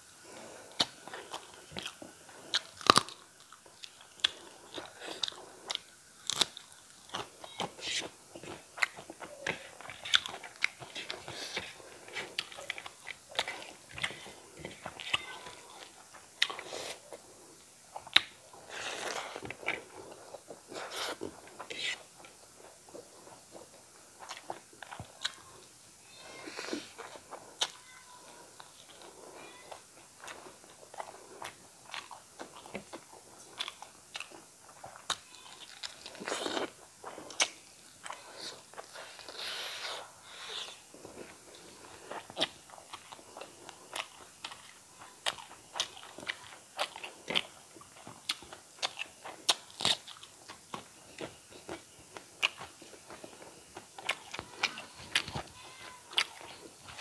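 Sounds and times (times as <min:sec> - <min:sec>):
person chewing crunchy food: 0:00.2 - 0:57.0.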